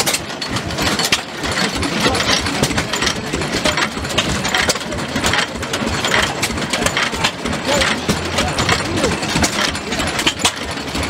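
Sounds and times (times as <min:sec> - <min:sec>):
stationary engines chugging: 0:00.0 - 0:11.0.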